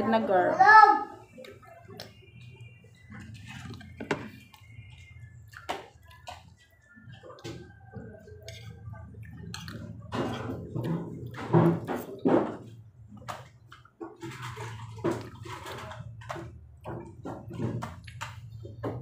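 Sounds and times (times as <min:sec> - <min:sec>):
wet chewing and mouth noises: 0:01.3 - 0:12.2, 0:13.0 - 0:18.7.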